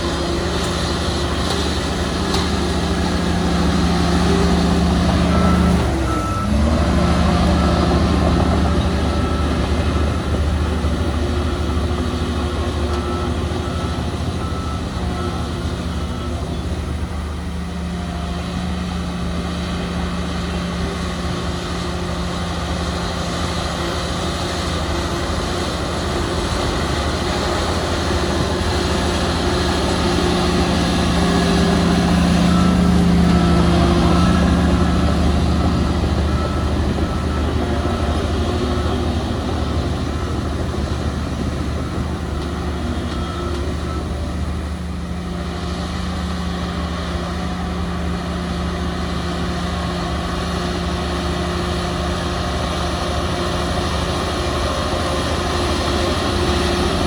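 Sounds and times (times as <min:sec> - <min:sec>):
diesel machinery engine running: 0:00.0 - 0:57.0
reversing alarm beeping: 0:00.0 - 0:57.0.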